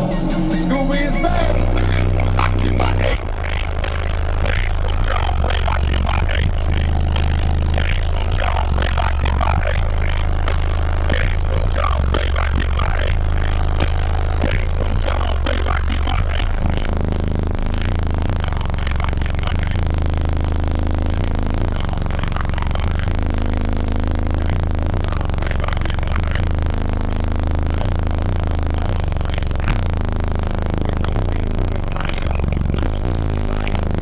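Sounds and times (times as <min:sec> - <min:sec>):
loud deep bass line: 0:00.0 - 0:34.0.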